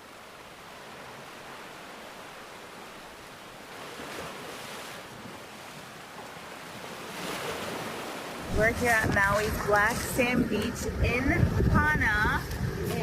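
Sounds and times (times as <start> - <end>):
ocean surf washing on shore: 0.0 - 13.0.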